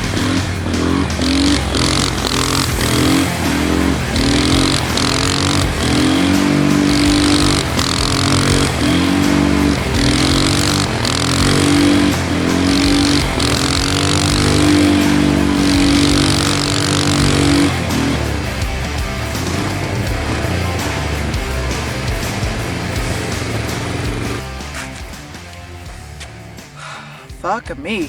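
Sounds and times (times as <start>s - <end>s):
quad engine revving: 0.0s - 26.7s.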